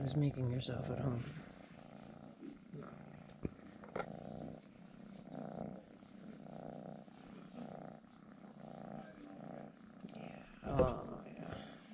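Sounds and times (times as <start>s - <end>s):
cat purring: 0.0s - 11.9s.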